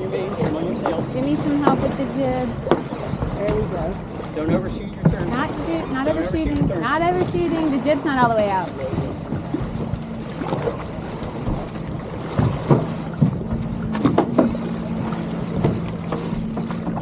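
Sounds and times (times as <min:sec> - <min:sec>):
steady low hum: 0:00.0 - 0:17.0
water noise: 0:00.0 - 0:17.0.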